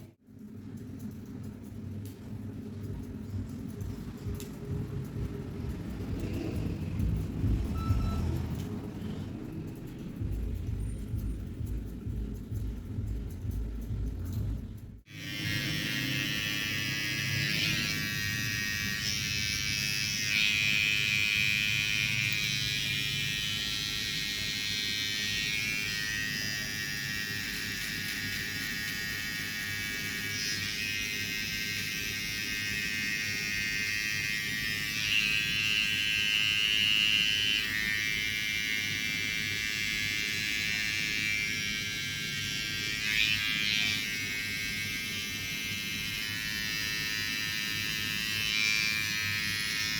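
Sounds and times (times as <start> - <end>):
electric hair clippers buzzing: 2.9 - 13.9, 15.1 - 49.9.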